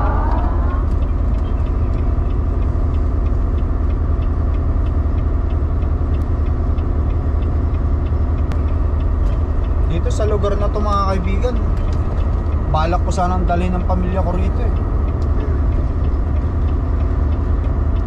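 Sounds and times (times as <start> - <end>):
faint regular ticking: 0.0 - 18.0
road noise: 0.0 - 18.0
truck diesel engine rumble: 0.0 - 18.0.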